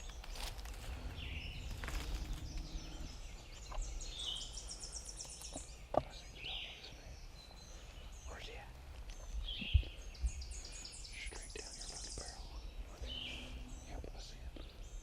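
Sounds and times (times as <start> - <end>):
birds chirping: 0.0 - 15.0
low wind rumble: 0.0 - 15.0.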